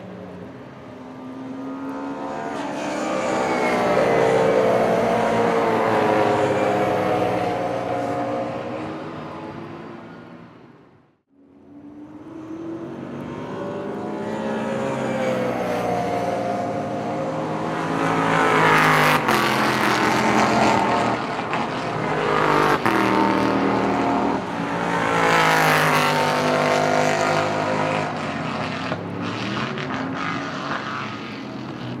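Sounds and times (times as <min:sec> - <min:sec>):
race cars passing at speed: 0:00.0 - 0:32.0.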